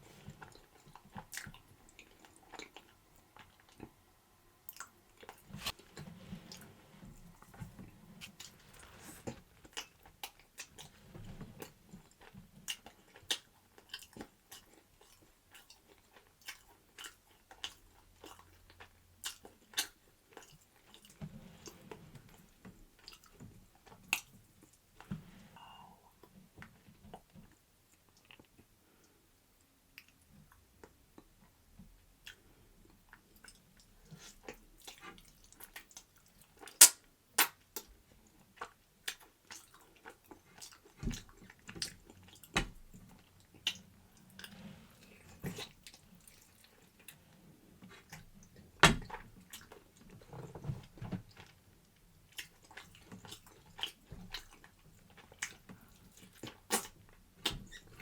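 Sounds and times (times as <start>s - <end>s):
person chewing food: 0.0s - 4.0s, 4.6s - 29.2s, 32.2s - 58.0s.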